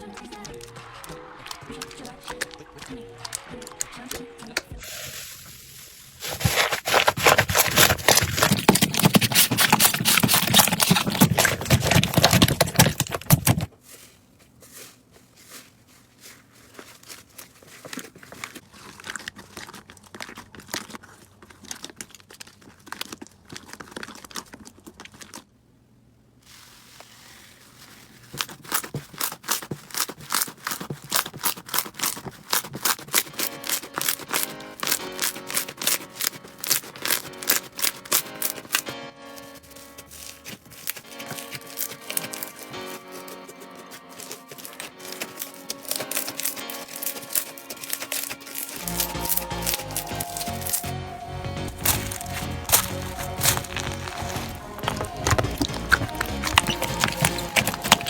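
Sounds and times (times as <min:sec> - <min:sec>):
slime crackling and popping: 0:00.0 - 0:13.7, 0:17.0 - 0:25.5, 0:26.4 - 0:51.0, 0:51.6 - 0:58.0.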